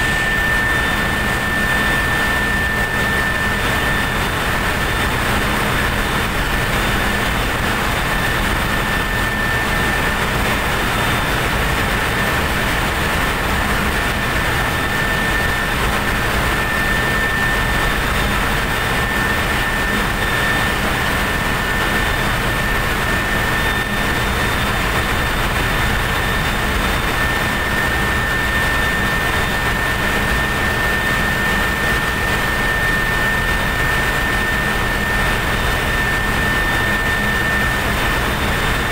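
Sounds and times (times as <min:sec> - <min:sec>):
high-pitched whine: 0:00.0 - 0:38.9
loud machinery drone: 0:00.0 - 0:38.9.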